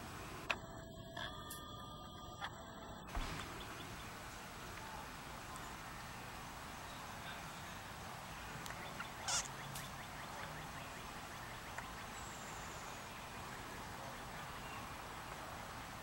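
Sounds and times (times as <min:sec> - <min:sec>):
steady hiss: 0:00.0 - 0:00.6, 0:03.1 - 0:16.0.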